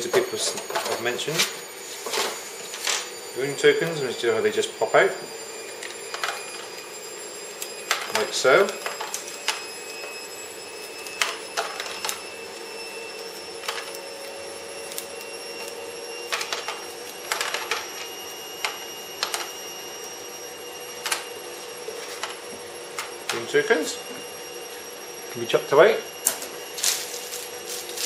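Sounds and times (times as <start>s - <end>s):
washing machine running: 0.0s - 28.0s.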